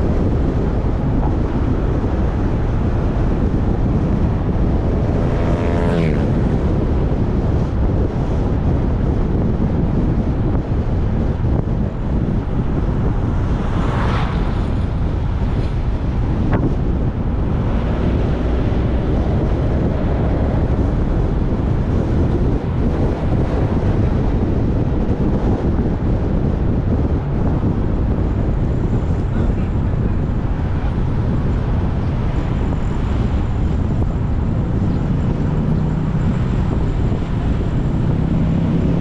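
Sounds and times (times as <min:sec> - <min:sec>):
road and vehicle noise: 0:00.0 - 0:39.0
wind rumble on microphone: 0:00.0 - 0:39.0.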